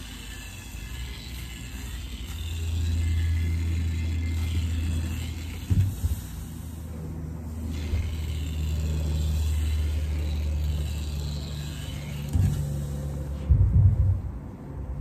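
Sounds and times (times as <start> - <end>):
sewing machine motor hum: 0.0 - 13.4.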